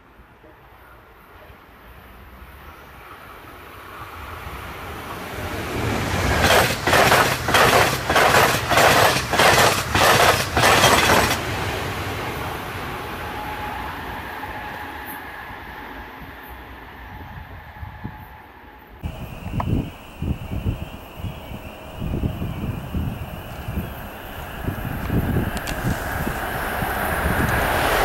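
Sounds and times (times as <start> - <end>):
passenger train passing: 1.3 - 28.0.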